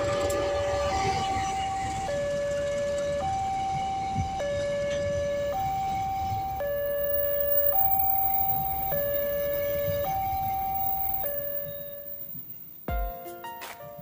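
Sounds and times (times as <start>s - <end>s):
train wagons rumbling on rails: 0.0s - 13.3s
level crossing two-tone alarm: 0.1s - 13.2s.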